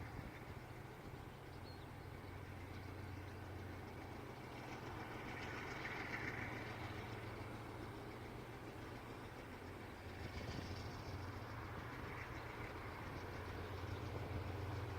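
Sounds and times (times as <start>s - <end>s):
diesel locomotive engine running: 0.0s - 14.9s.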